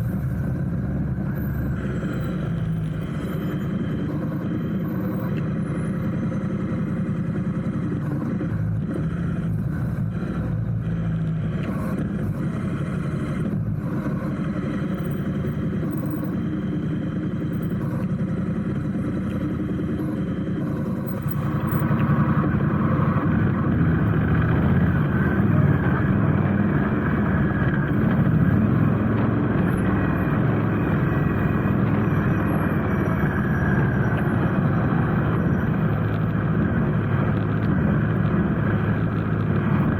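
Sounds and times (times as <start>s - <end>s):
motorcycle engine hum: 0.0s - 39.9s
road and wind noise: 0.0s - 39.9s.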